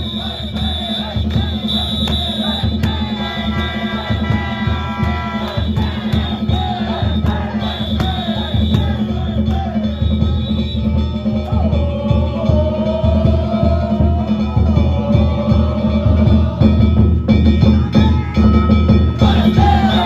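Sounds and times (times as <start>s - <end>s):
crowd chanting and shouting: 0.0s - 20.0s
drum beating: 0.0s - 20.0s.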